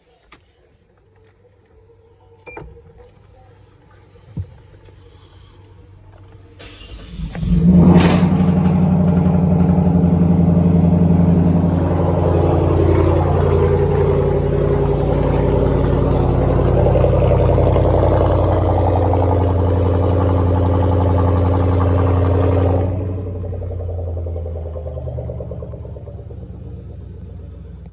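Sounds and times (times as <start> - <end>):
car engine starting and idling: 2.3 - 27.9.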